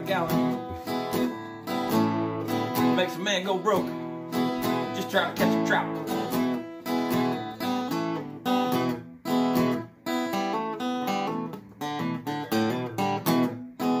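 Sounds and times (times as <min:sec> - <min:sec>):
acoustic guitar blues strumming: 0:00.0 - 0:14.0.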